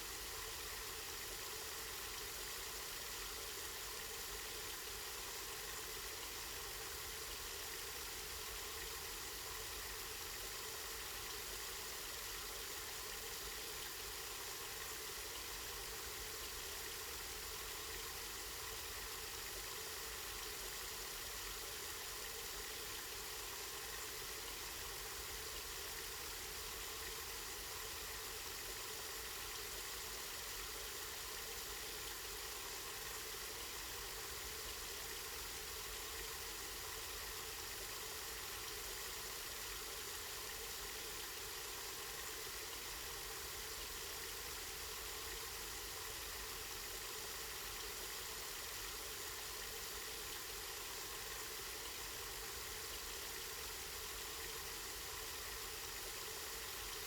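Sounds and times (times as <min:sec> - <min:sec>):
spring water flowing and splashing: 0:00.1 - 0:57.0.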